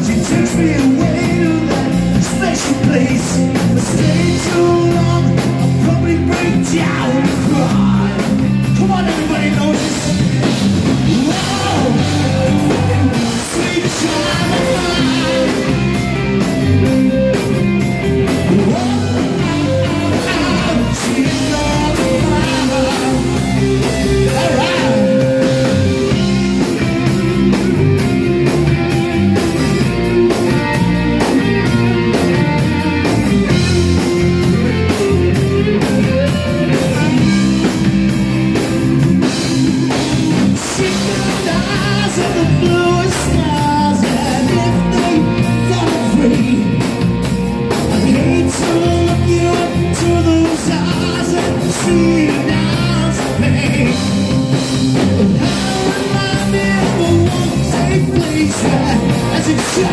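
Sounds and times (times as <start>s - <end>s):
man singing lead vocals: 0.0s - 27.8s, 31.2s - 59.9s
drum kit: 0.0s - 59.9s
electric guitar: 0.0s - 59.9s.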